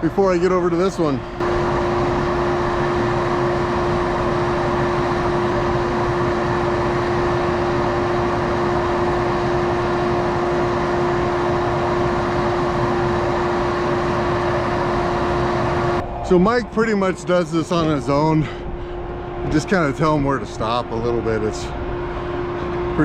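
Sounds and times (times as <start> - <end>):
machine hum with constant tone: 0.0 - 23.0.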